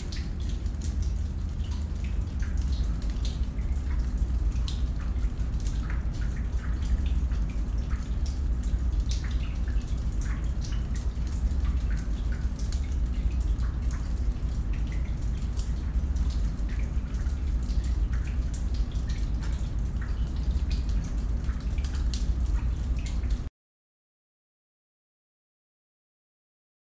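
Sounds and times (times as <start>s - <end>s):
steady low rumble: 0.0s - 23.1s.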